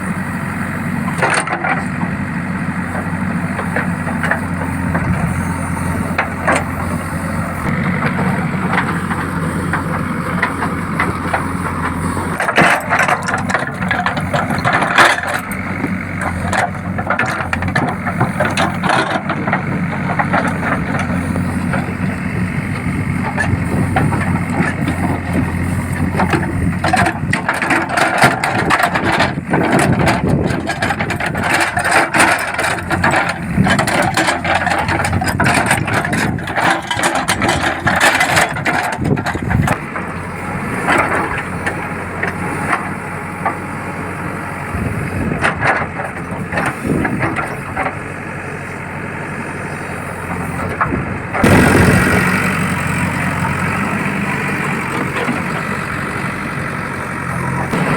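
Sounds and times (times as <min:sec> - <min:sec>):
diesel engine under load: 0:00.0 - 0:57.9.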